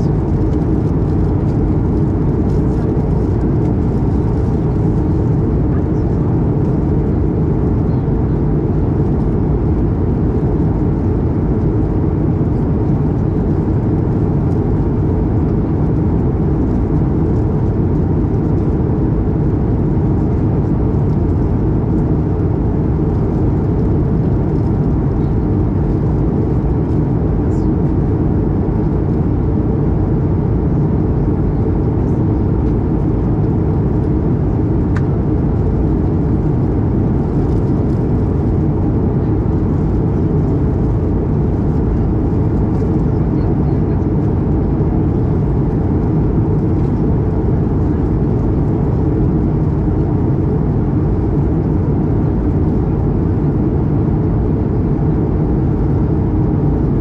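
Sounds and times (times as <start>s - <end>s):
airflow over fuselage: 0.0s - 54.9s
jet engine drone: 0.0s - 57.0s.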